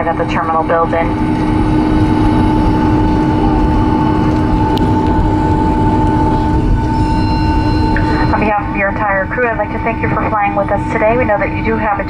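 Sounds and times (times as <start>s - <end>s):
aircraft cabin rumble: 0.0s - 12.0s
two-note engine hum: 0.0s - 12.0s.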